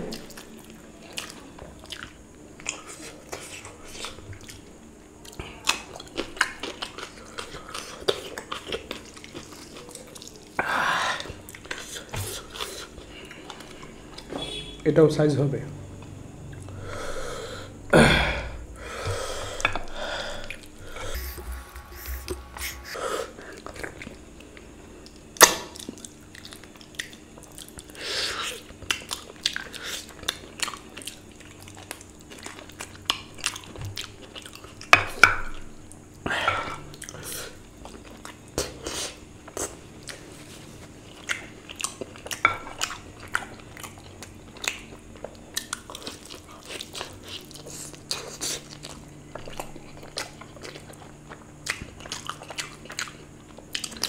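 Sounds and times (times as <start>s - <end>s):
person chewing food: 0.1s - 14.3s, 18.4s - 34.9s, 35.5s - 54.0s.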